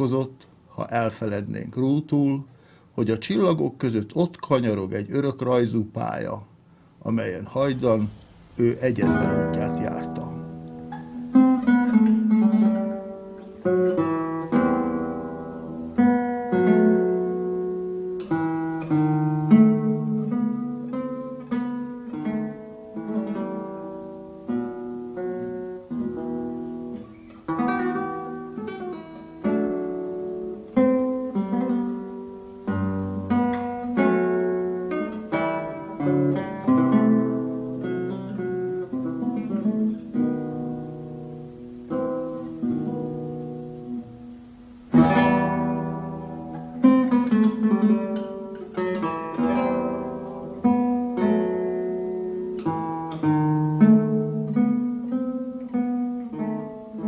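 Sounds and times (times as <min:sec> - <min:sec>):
acoustic guitar: 0:00.0 - 0:57.0.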